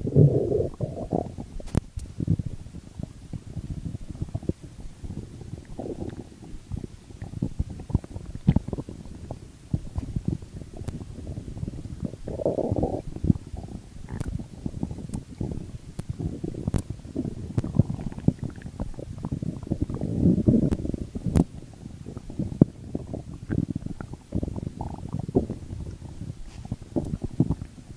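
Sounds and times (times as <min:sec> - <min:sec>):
stomach growling and gurgling: 0:00.0 - 0:27.9.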